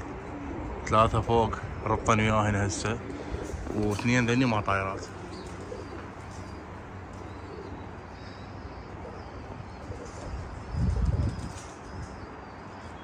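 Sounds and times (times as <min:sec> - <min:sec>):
pigeons cooing: 0:00.0 - 0:13.0
steady background hiss: 0:00.0 - 0:13.0.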